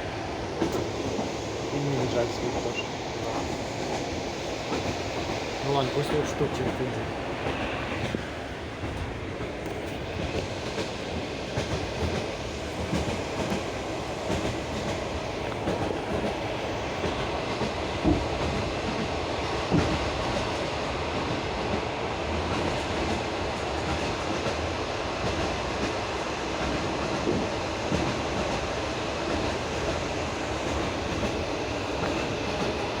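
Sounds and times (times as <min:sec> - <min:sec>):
train wheels rumbling on rails: 0:00.0 - 0:33.0
clacks over rail joints: 0:00.6 - 0:20.6, 0:26.6 - 0:33.0.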